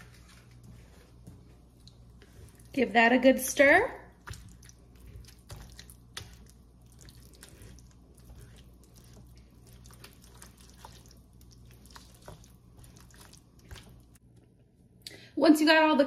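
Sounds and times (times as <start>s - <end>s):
wet squishing of sauce: 0.0s - 2.8s, 4.0s - 14.3s
steady low hum: 0.0s - 15.4s.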